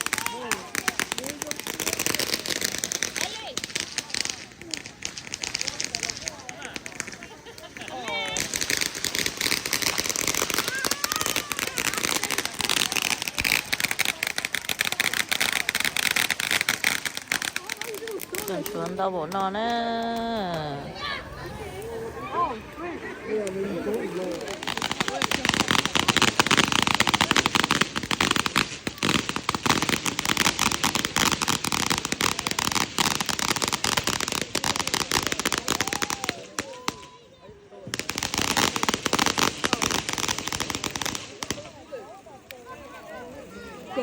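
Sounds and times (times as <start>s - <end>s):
fireworks crackling and popping: 0.0s - 44.0s.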